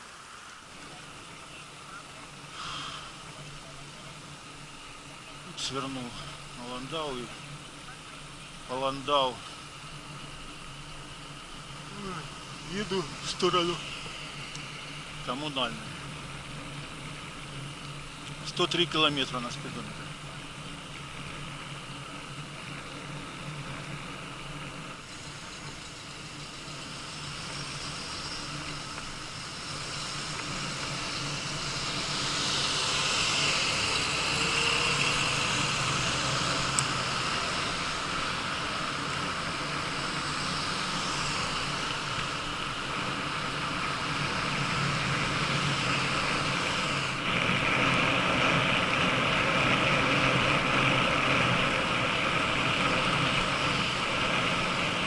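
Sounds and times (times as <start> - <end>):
bicycle tyre hiss: 0.0 - 55.0.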